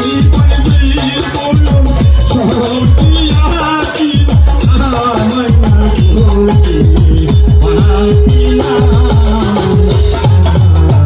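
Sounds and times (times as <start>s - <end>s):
drum beating deep strokes: 0.0s - 11.0s
man singing through microphone: 0.0s - 11.0s.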